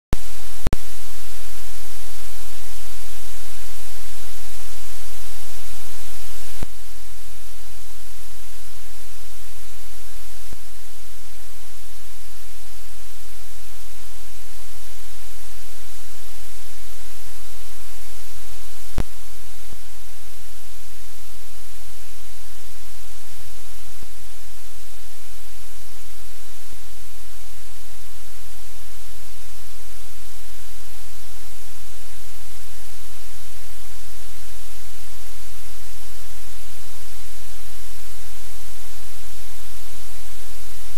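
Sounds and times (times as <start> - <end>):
loud static hiss: 0.2 - 40.9
low steady hum: 0.2 - 40.9.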